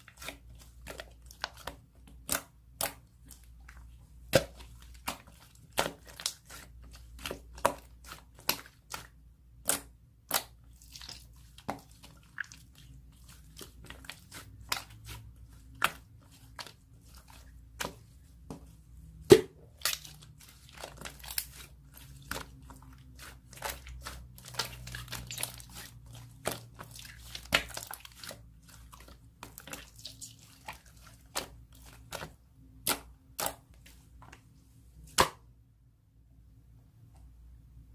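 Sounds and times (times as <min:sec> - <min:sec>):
slime squishing and crackling: 0:00.0 - 0:18.5, 0:19.2 - 0:33.6.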